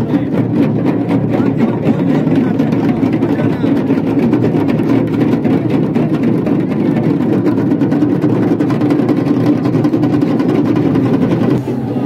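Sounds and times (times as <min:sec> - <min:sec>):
huge crowd din: 0:00.0 - 0:12.0.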